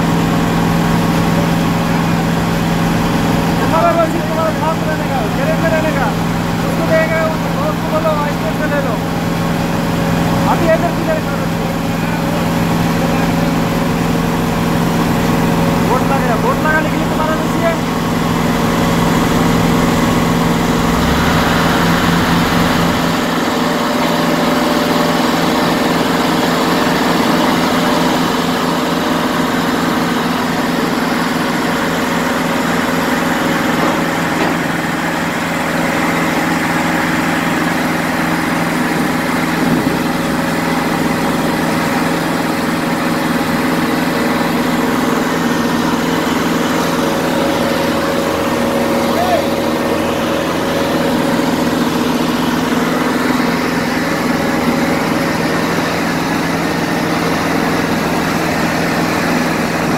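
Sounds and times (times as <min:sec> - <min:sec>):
construction machinery diesel engines: 0:00.0 - 0:59.9.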